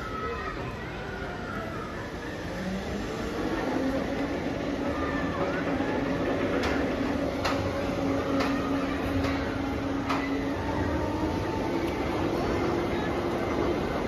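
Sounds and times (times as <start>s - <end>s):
amusement ride machinery humming: 0.0s - 14.0s.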